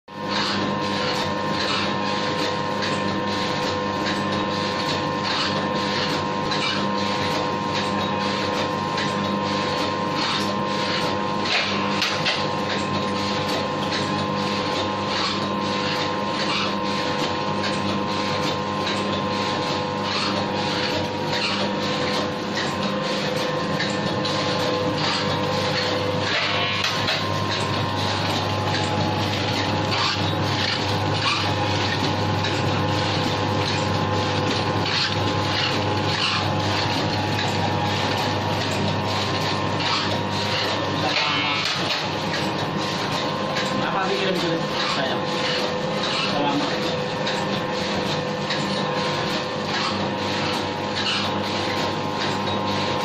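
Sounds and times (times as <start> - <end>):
packing machine humming: 0.1 - 53.0.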